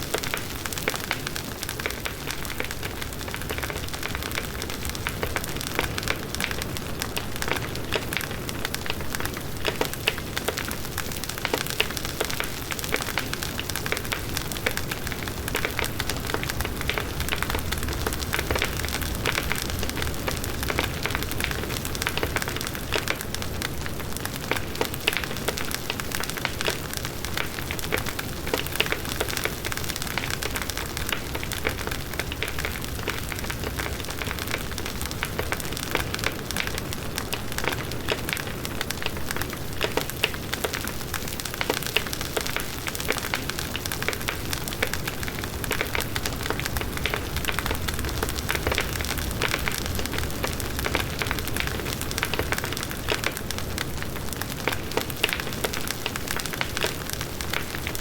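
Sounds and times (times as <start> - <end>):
logs crackling and popping: 0.0 - 58.0.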